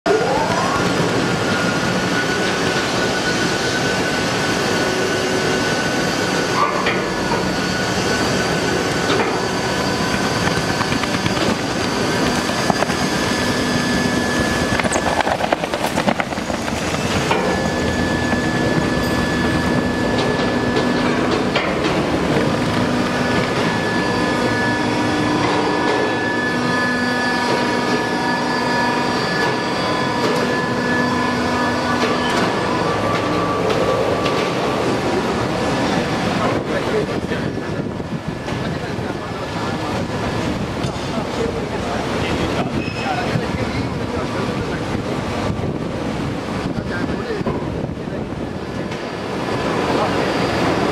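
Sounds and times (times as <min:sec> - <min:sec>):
whining tones: 0:00.1 - 0:44.5.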